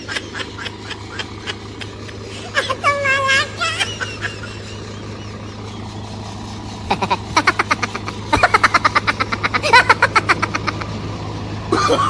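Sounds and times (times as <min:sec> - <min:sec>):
sharp clattering pulses: 0:00.0 - 0:12.0
threshing machine droning: 0:00.0 - 0:12.0.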